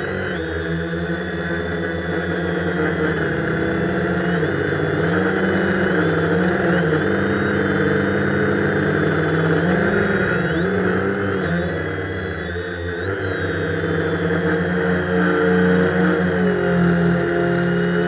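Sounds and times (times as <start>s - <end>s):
drone propellers whirring: 0.0s - 18.0s.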